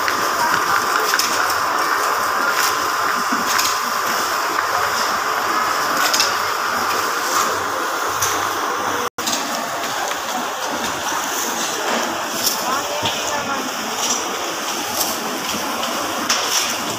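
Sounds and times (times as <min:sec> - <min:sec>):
supermarket background hiss: 0:00.0 - 0:16.9.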